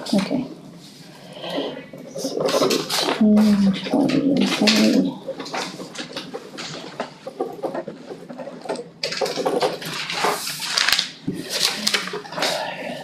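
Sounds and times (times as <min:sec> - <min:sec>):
paper sheets rustling: 0:02.1 - 0:13.0.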